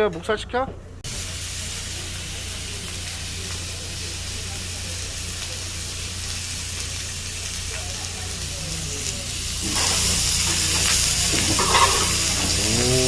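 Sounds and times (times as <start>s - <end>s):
meat sizzling on a griddle: 1.1s - 13.0s.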